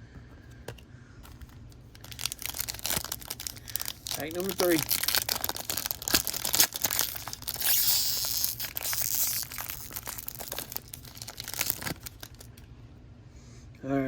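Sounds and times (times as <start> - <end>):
wrapper crinkling and tearing: 1.3 - 12.6.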